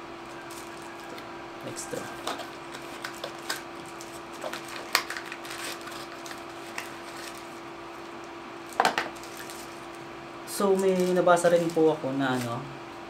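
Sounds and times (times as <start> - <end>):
steady low hum: 0.0 - 13.0
packaging crinkling: 0.2 - 1.3, 1.9 - 10.0, 10.6 - 12.6.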